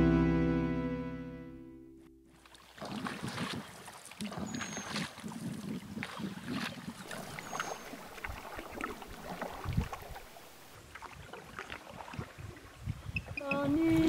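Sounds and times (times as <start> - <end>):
water splashing from paddling: 2.3 - 14.0.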